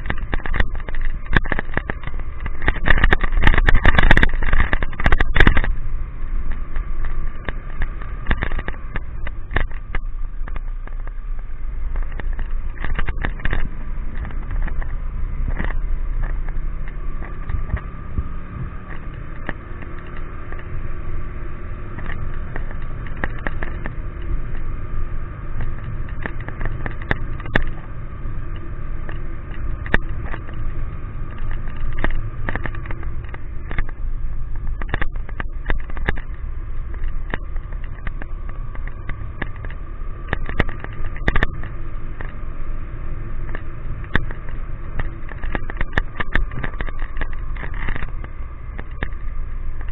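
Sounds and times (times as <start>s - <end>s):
raindrops clicking on camera: 0.0s - 49.9s
vehicle engine and road rumble: 0.0s - 49.9s.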